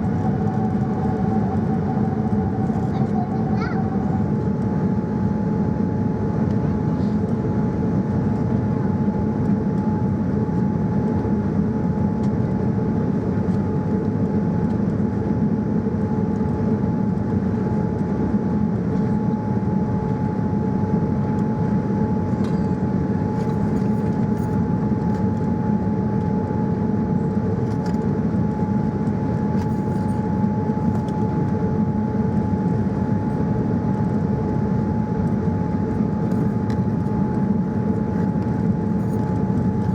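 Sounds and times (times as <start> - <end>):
aircraft cabin engine and airflow noise: 0.0 - 39.9.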